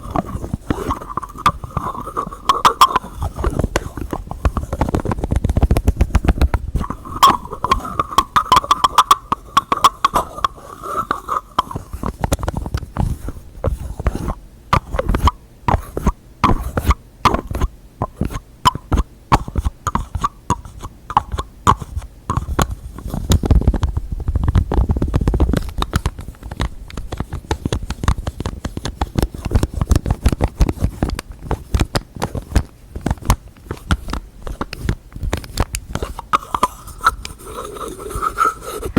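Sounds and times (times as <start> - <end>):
tapping on containers and lids: 0.0 - 13.2, 14.0 - 23.5, 25.5 - 38.6.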